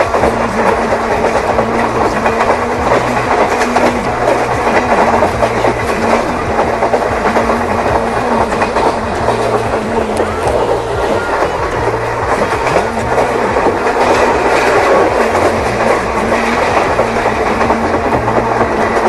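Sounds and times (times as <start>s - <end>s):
low shifting tones: 0.0s - 19.0s
train wheels clickety-clack: 0.0s - 19.0s.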